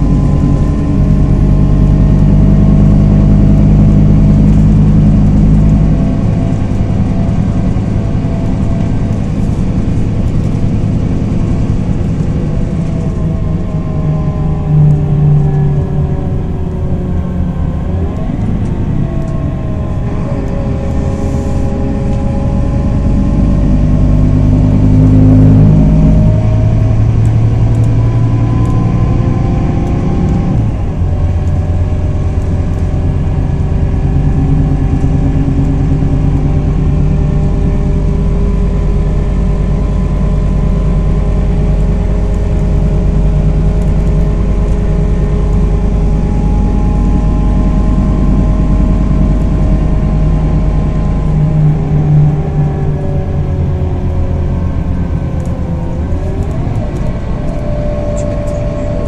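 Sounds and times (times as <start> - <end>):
bus diesel engine pulling: 0.0 - 59.0.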